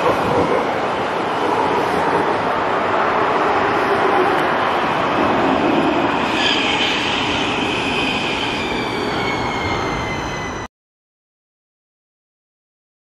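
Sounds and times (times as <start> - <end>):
metro train rumbling on rails: 0.0 - 10.7
train high whine: 0.0 - 10.7.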